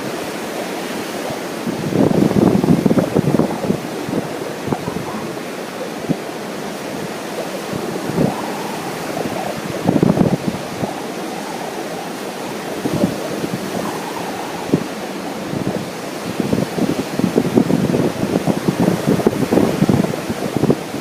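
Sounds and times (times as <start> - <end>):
ocean surf rushing: 0.0 - 21.0
wind buffeting microphone: 0.0 - 21.0.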